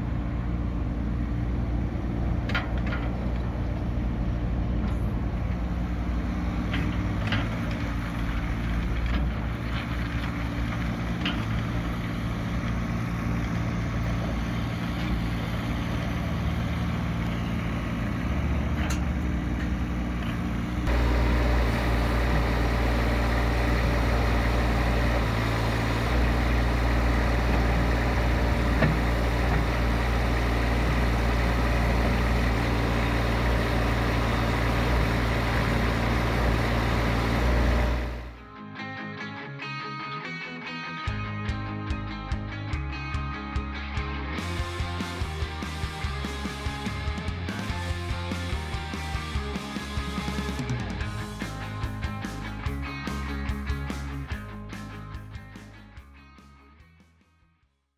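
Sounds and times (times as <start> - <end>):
excavator diesel engine running: 0.0 - 38.4, 44.4 - 55.8.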